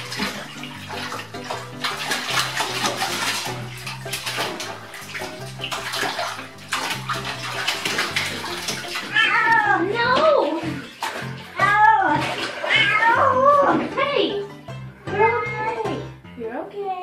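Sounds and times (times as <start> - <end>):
cat scrambling against bathtub: 0.0 - 13.9
bathwater splashing: 0.0 - 16.0
background music: 0.0 - 17.0.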